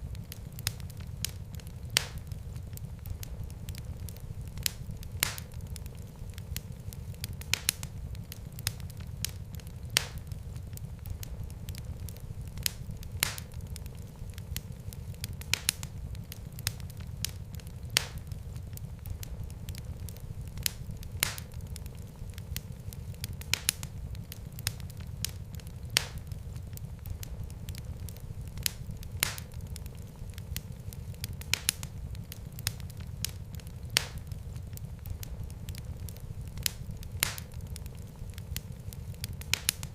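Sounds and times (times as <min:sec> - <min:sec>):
fire crackling with sharp pops: 0:00.0 - 0:39.9
low rumble of flames: 0:00.0 - 0:39.9.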